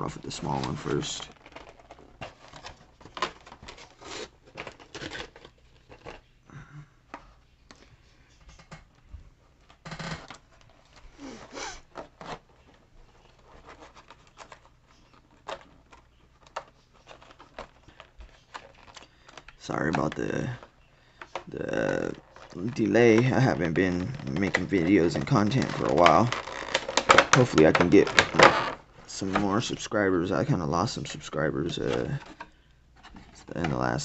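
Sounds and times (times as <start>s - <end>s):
stiff plastic crinkling: 0.0s - 34.0s.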